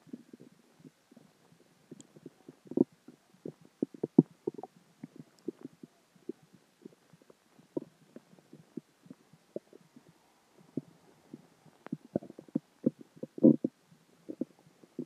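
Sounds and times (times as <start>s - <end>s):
stomach gurgling: 0.0s - 15.0s.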